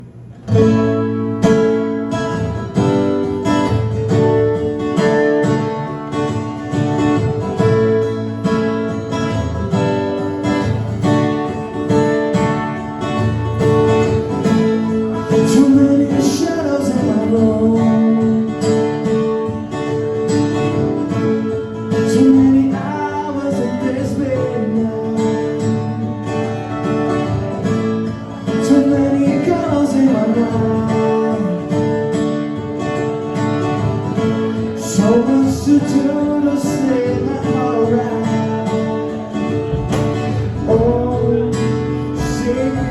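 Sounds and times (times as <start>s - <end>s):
acoustic guitars playing chords: 0.0s - 42.9s.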